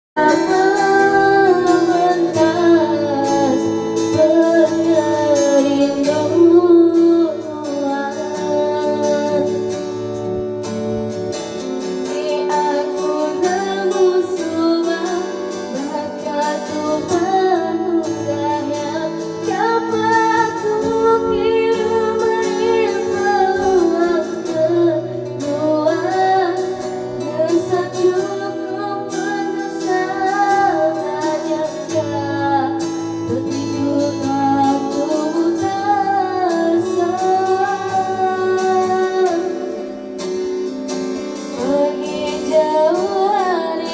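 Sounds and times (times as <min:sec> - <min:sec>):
guitar accompaniment: 0:00.2 - 0:43.9
woman singing: 0:00.2 - 0:43.9.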